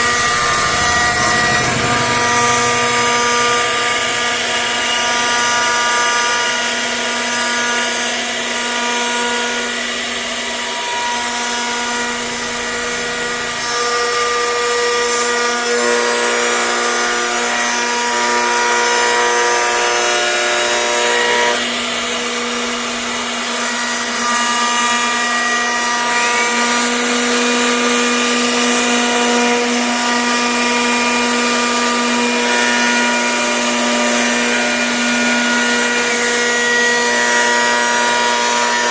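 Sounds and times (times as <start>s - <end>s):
cnc router spindle whine: 0.0s - 38.9s.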